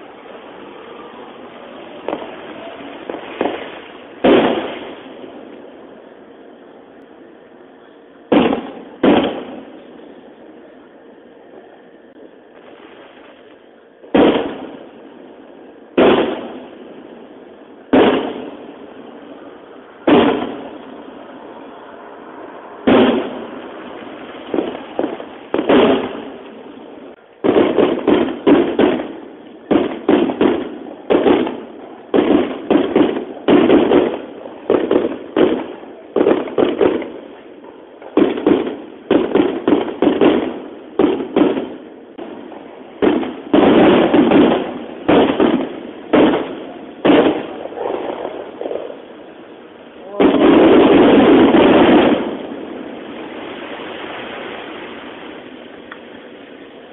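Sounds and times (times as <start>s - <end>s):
firework shells bursting: 0.0s - 10.8s, 12.1s - 56.6s.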